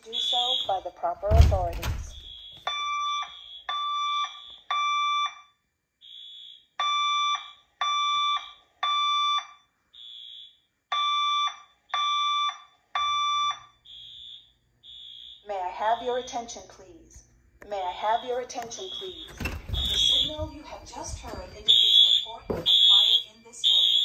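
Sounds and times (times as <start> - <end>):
fire alarm evacuation tones: 0.0 - 16.6, 17.8 - 24.0.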